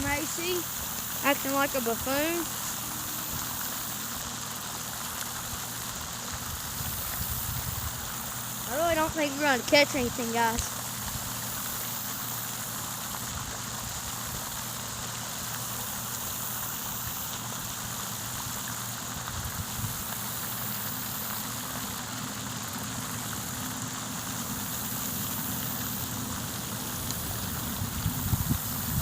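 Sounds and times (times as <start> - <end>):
low steady hum: 0.0 - 16.4, 17.3 - 29.0
fountain spray splashing on water: 0.0 - 29.0.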